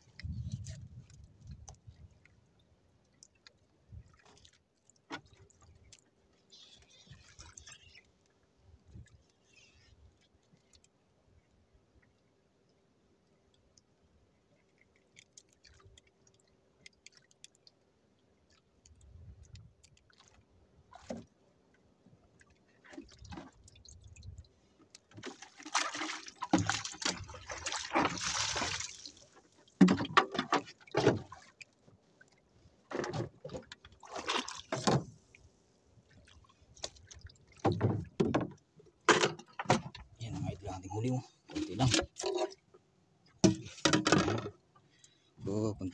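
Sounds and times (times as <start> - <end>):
water sloshing and splashing: 0.0 - 12.4, 13.2 - 45.9.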